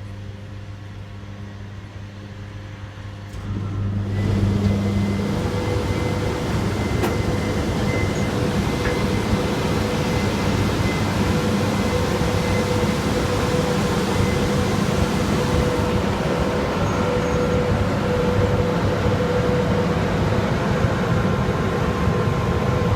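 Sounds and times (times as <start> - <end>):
train running rumble with whine: 0.0 - 22.9.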